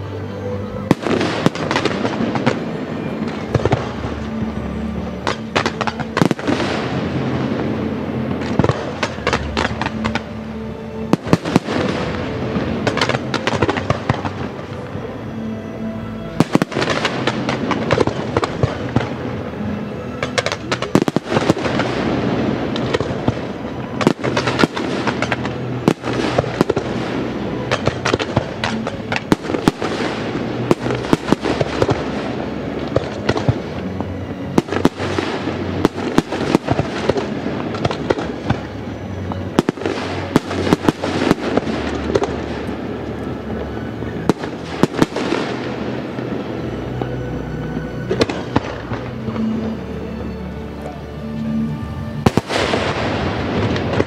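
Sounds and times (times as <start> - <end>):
fireworks bursting: 0.0 - 54.0
music playing: 0.0 - 54.0.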